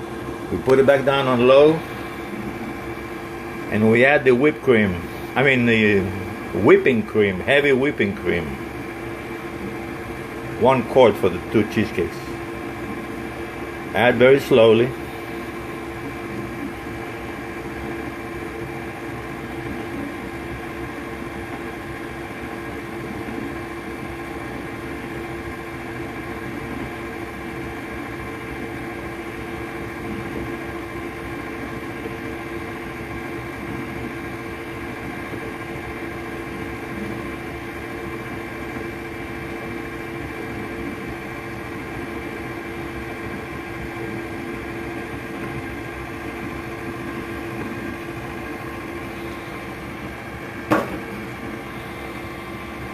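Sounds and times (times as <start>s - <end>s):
stand mixer motor humming: 0.0s - 52.9s.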